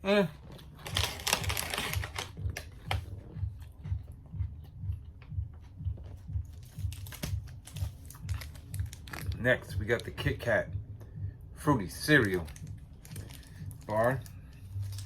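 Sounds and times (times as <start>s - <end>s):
person chewing crunchy cereal bar: 0.3s - 9.9s, 11.9s - 15.0s.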